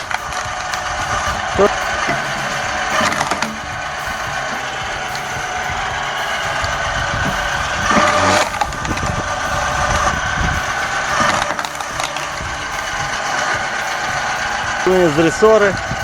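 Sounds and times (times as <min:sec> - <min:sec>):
log splitter motor hum: 0:00.0 - 0:16.0.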